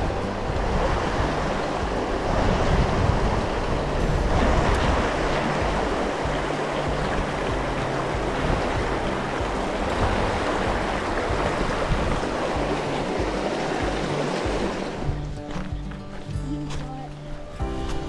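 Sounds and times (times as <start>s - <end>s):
creek water rushing: 0.0s - 18.0s
faint background music: 0.0s - 18.0s.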